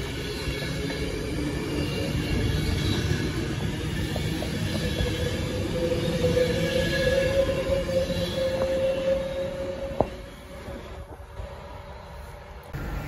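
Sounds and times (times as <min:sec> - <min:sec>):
train hum: 0:00.0 - 0:13.0
train wheels rumbling on rails: 0:00.0 - 0:13.0.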